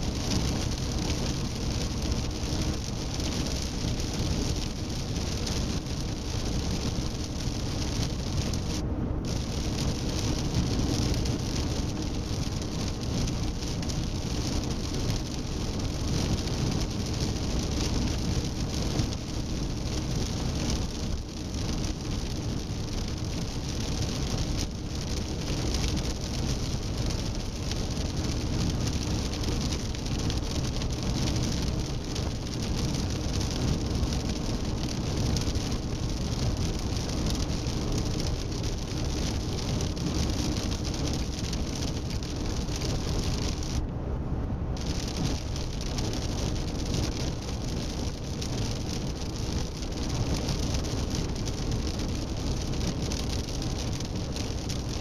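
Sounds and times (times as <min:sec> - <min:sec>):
car tyre and road noise: 0:00.0 - 0:55.0
low engine rumble: 0:00.0 - 0:55.0.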